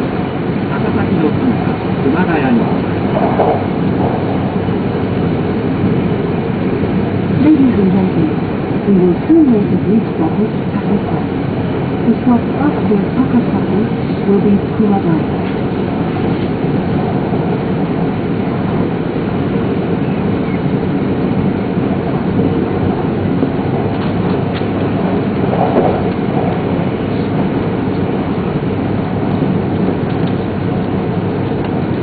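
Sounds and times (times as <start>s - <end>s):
train running noise: 0.0s - 32.0s.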